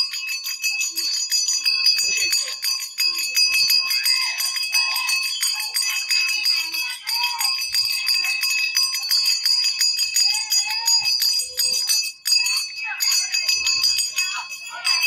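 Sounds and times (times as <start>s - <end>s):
bells ringing rapidly: 0.0s - 15.0s.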